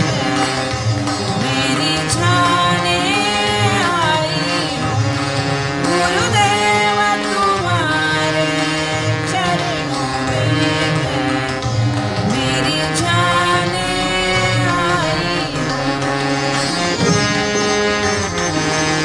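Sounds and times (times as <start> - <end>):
woman singing devotional song: 0.0 - 17.4
instrumental accompaniment: 0.0 - 19.0
percussion beat: 0.0 - 19.0.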